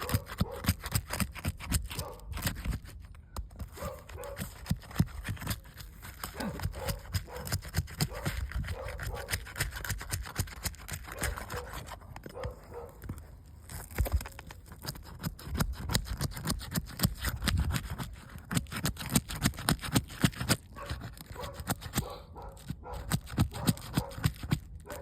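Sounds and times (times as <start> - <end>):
roof shingle scraping and clicking: 0.0 - 25.0.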